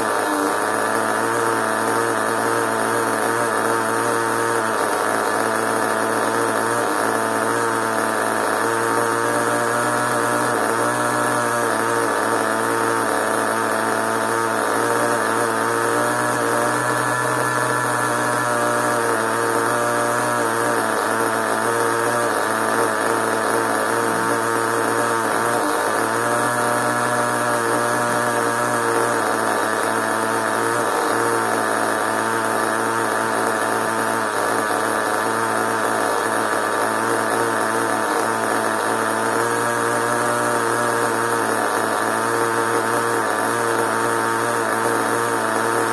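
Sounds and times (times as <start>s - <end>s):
small nitro engine running: 0.0s - 45.9s.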